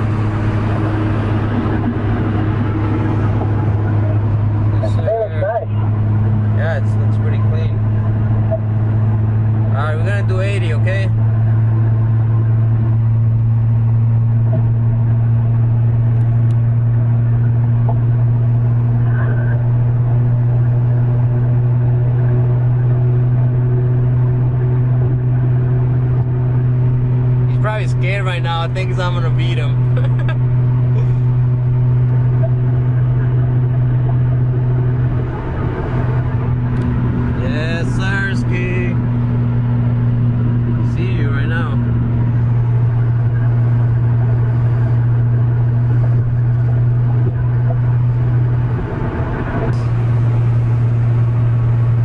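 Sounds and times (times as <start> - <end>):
car exhaust droning: 0.0 - 52.0.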